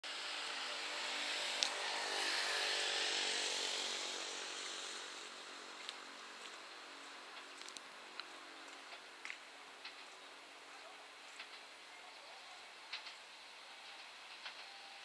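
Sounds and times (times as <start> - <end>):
distant diesel railcar engines: 0.0 - 15.0.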